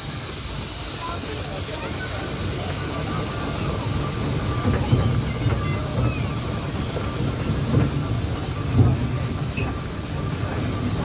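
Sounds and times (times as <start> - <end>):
steam hissing: 0.0 - 11.0
steam train rumbling: 0.0 - 11.0.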